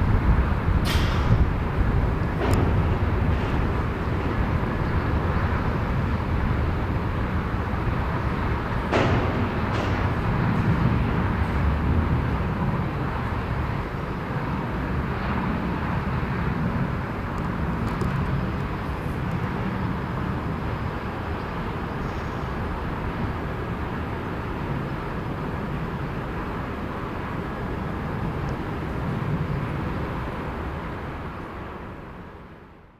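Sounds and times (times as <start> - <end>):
jet airliner engines rumbling: 0.0 - 32.9.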